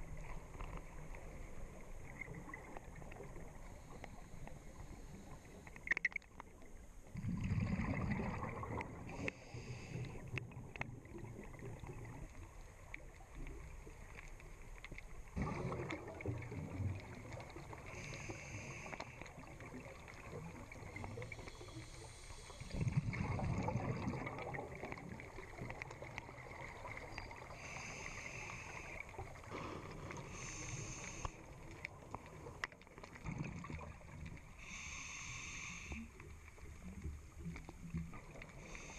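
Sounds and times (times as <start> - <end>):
exhaled bubbles gurgling underwater: 0.0 - 38.9.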